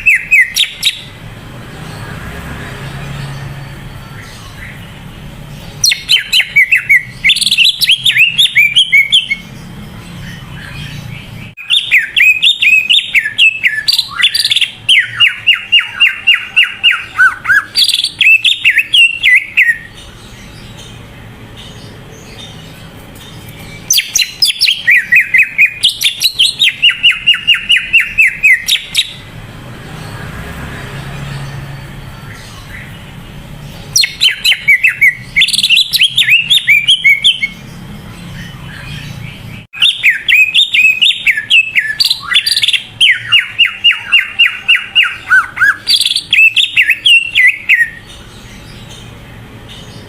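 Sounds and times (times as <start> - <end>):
bird chirping song: 0.0 - 50.0.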